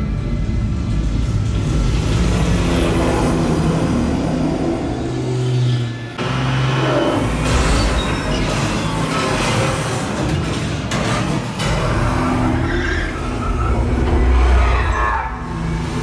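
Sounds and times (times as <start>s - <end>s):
tense orchestral score: 0.0s - 16.0s
vehicle engines and traffic: 0.0s - 16.0s.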